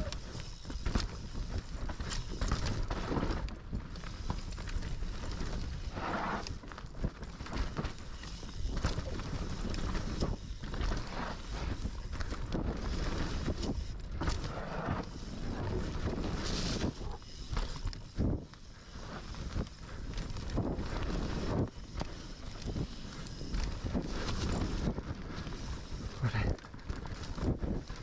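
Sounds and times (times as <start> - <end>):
bike knocking and rattling: 0.0 - 28.0
bike tyres rumbling over dirt: 0.0 - 28.0.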